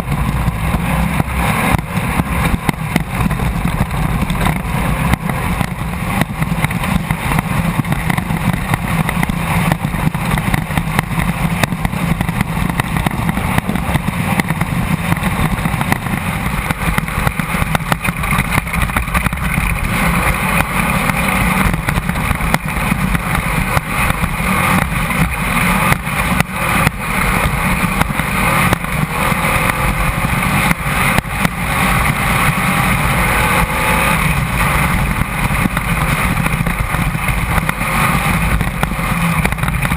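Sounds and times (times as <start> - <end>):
car knocks and jolts: 0.0 - 39.9
race car engine running hard: 0.0 - 39.9
rattling and road noise: 0.0 - 39.9.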